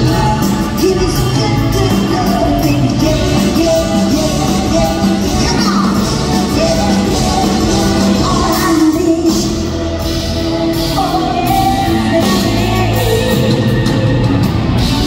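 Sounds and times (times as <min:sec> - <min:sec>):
live pop-rock band playing: 0:00.0 - 0:15.0
woman singing lead vocal: 0:00.0 - 0:15.0.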